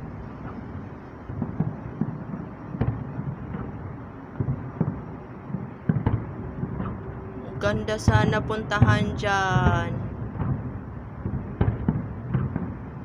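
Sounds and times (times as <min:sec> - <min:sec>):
fireworks bursting: 0:00.0 - 0:13.0
steady background noise: 0:00.0 - 0:13.0.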